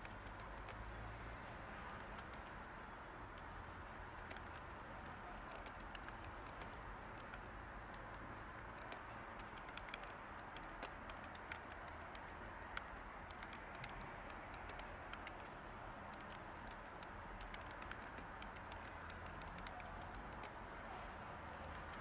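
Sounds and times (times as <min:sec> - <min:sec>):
keyboard typing: 0:00.0 - 0:00.9, 0:01.8 - 0:20.7, 0:21.3 - 0:22.0
white noise hiss: 0:00.0 - 0:22.0.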